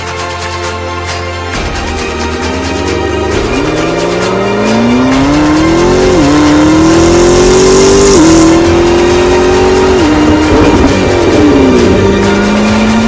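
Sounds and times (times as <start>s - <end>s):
sports car accelerating with upshifts: 2.4s - 13.0s.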